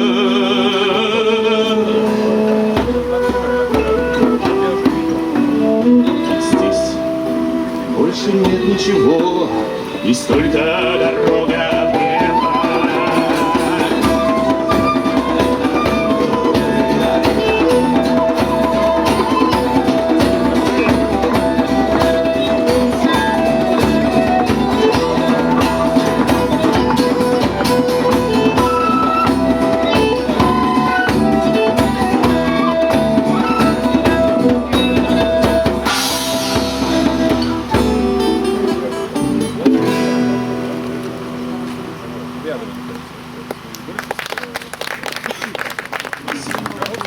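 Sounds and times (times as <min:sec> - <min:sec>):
live band playing: 0:00.0 - 0:47.0.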